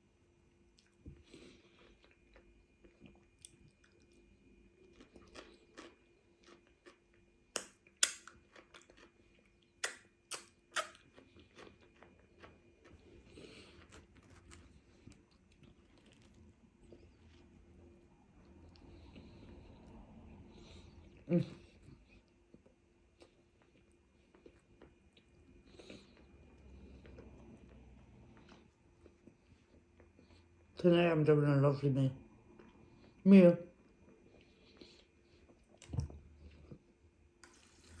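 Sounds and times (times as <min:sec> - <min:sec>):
soft chewing: 0:00.3 - 0:30.8, 0:32.2 - 0:38.0.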